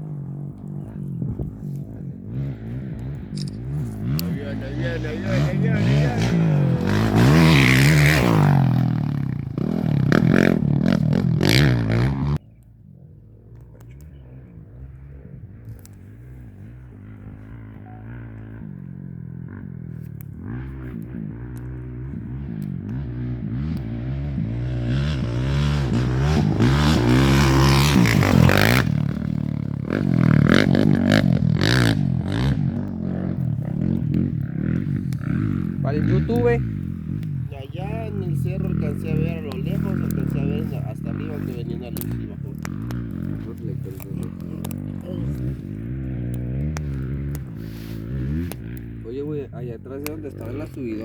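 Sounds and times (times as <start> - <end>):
race vehicle engine revving: 0.0 - 12.6, 13.2 - 51.0
motorcycle passing at speed: 0.0 - 51.0.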